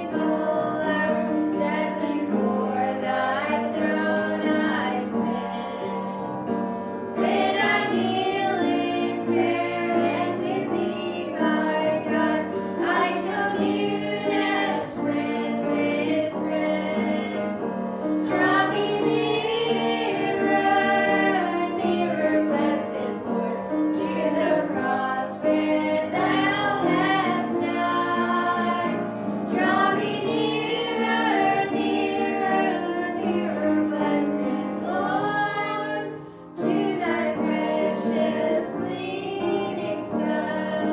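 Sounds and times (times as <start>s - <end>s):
women singing gospel song: 0.0s - 6.4s, 7.1s - 40.9s.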